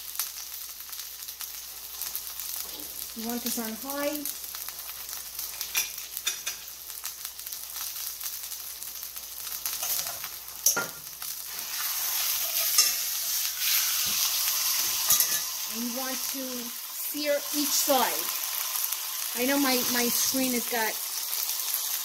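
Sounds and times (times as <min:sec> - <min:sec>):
steak sizzling in skillet: 0:00.0 - 0:22.0.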